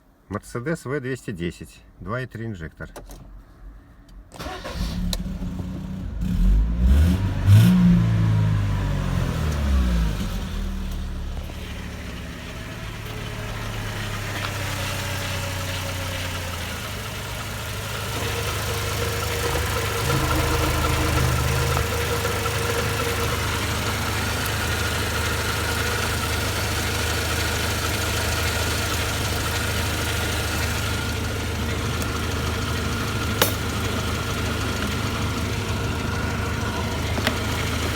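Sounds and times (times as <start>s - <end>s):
car engine idling: 7.2s - 37.9s.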